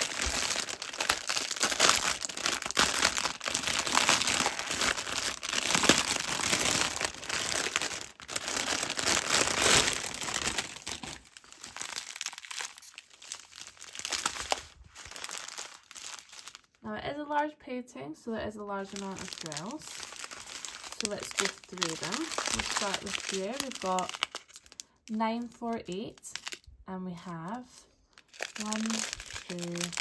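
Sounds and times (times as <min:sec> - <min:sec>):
plastic bag crinkling: 0:00.0 - 0:16.8, 0:18.8 - 0:26.7, 0:27.5 - 0:30.0.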